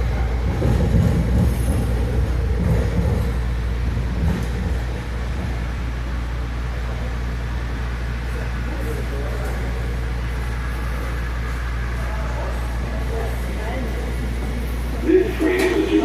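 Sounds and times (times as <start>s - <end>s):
train car rumbling on guideway: 0.0s - 16.0s.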